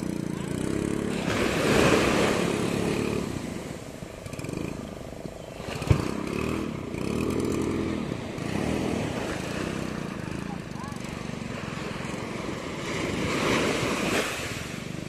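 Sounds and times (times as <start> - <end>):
outboard motor running: 0.0 - 15.0
surf washing: 0.0 - 15.0.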